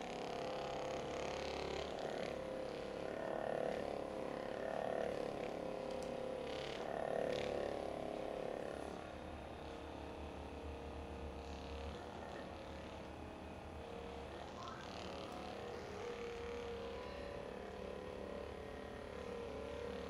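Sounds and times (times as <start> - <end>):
massage gun buzzing: 0.0 - 20.0.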